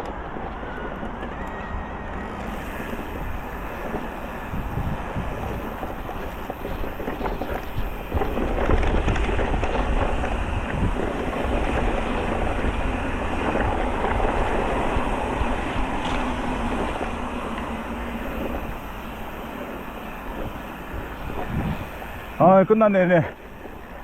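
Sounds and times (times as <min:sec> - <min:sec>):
bike rattles and clicks: 0:00.0 - 0:24.0
tyres rumbling: 0:00.0 - 0:24.0
wind rushing over microphone: 0:00.0 - 0:24.0.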